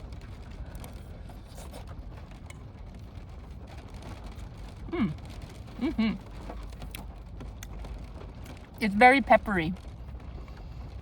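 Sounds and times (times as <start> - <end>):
wind and rain on a car: 0.0 - 11.0.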